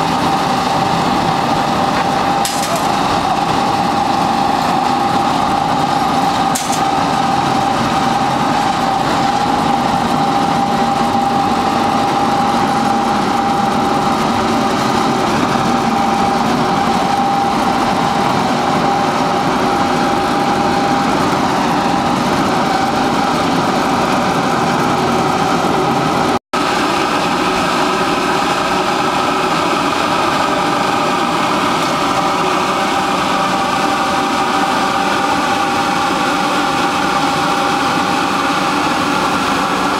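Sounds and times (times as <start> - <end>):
machinery din: 0.0 - 38.7
constant machine whine: 0.0 - 39.9.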